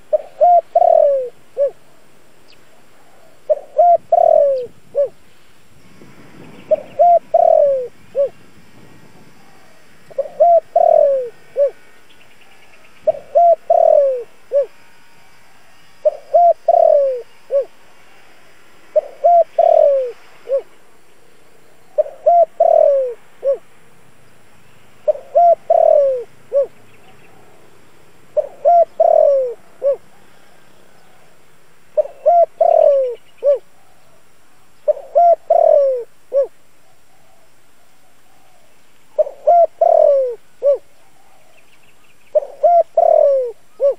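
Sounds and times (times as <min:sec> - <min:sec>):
dove cooing: 0:00.0 - 0:02.1, 0:02.7 - 0:05.2, 0:06.6 - 0:08.4, 0:09.4 - 0:17.8, 0:18.9 - 0:20.8, 0:21.8 - 0:23.7, 0:25.0 - 0:27.6, 0:28.3 - 0:41.6, 0:42.3 - 0:43.9.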